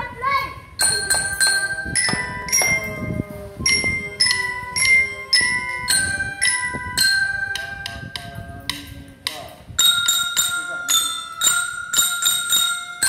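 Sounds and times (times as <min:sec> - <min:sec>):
glockenspiel melody: 0:00.8 - 0:09.1, 0:09.8 - 0:13.0.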